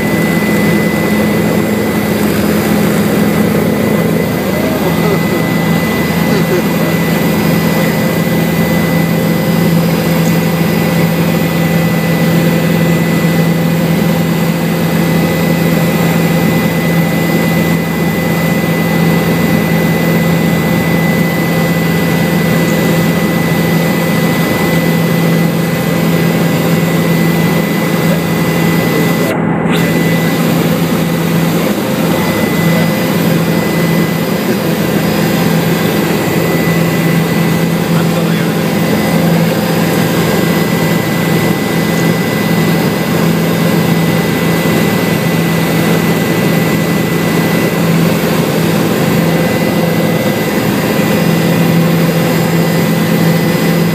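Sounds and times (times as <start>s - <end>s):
helicopter turbine and rotor: 0.0s - 53.9s.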